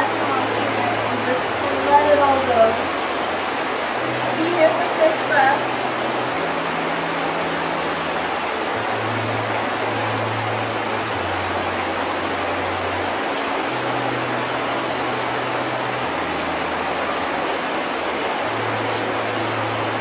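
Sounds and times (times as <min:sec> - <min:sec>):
heavy rain hissing: 0:00.0 - 0:20.0
soft background music: 0:00.0 - 0:20.0.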